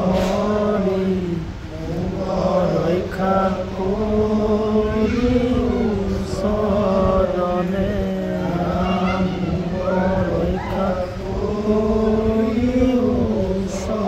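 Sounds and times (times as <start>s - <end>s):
men chanting a prayer: 0.0s - 14.0s.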